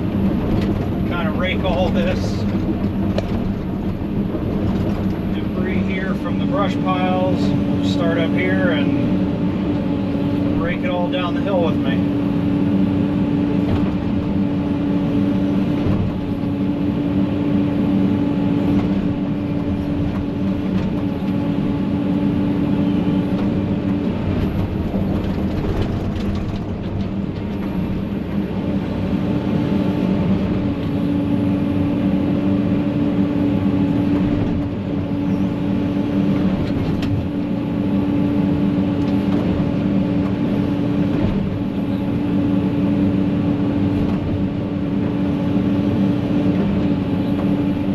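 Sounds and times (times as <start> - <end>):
heavy equipment diesel engine running: 0.0 - 47.9.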